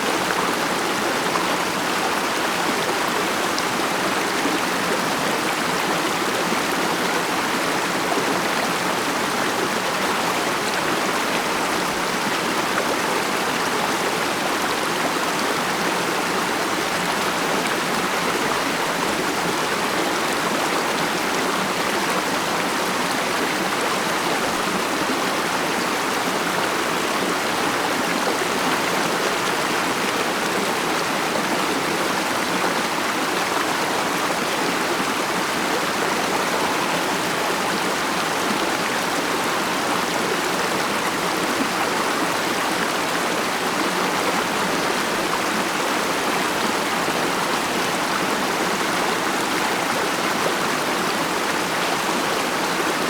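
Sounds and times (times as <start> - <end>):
stream running over rocks: 0.0 - 53.0.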